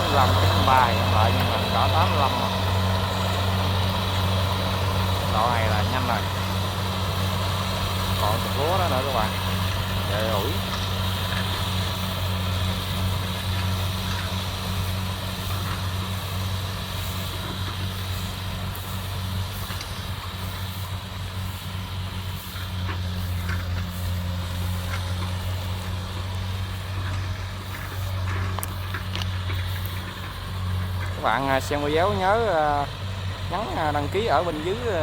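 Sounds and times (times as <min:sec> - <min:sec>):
diesel engine running: 0:00.0 - 0:35.0
harvester cutting gear clatter: 0:00.0 - 0:35.0.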